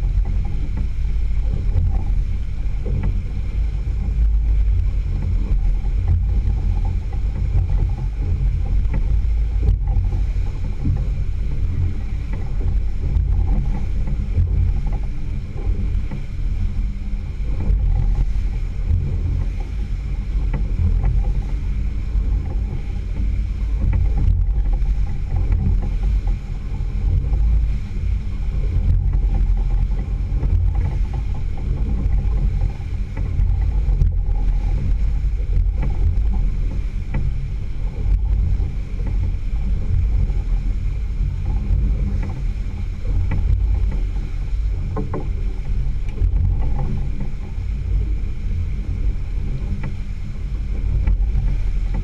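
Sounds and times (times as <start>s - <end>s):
outboard motor running: 0.0s - 52.0s
water rushing in wake: 0.0s - 52.0s
wind rumble on microphone: 0.0s - 52.0s.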